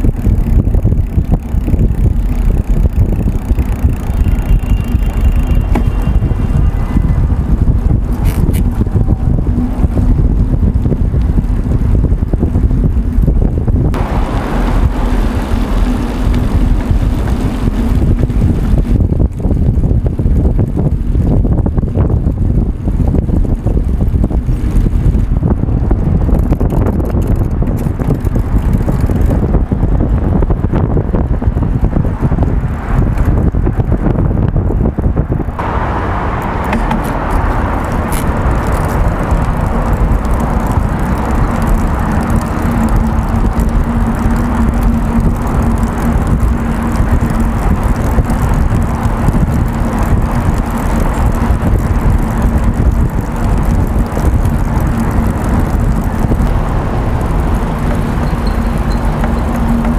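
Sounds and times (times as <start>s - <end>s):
city traffic: 0.0s - 59.9s
road rumble: 0.0s - 59.9s
wind buffeting microphone: 0.0s - 59.9s.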